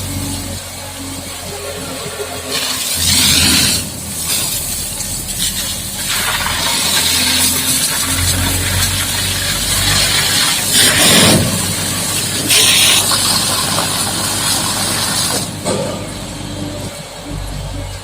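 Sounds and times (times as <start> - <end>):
high-pressure water jet hissing: 0.0 - 15.7
engine running: 0.0 - 18.0.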